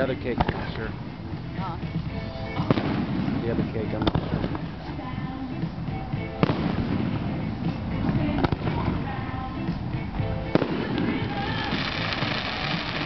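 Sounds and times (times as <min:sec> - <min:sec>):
fireworks bangs: 0:00.0 - 0:01.1, 0:02.4 - 0:13.0
music playing: 0:00.0 - 0:13.0.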